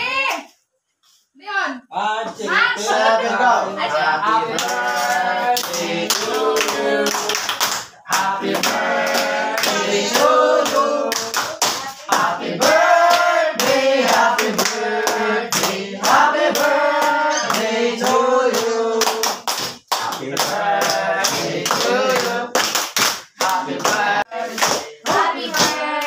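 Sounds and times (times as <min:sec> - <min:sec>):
group singing: 0:02.2 - 0:26.0
hands clapping: 0:04.5 - 0:26.0.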